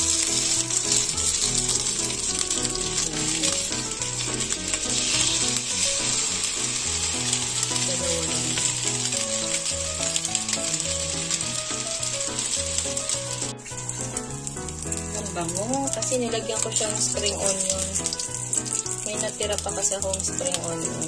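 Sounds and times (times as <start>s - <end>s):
food sizzling in a frying pan: 0.0s - 21.0s
music playing: 0.0s - 21.0s.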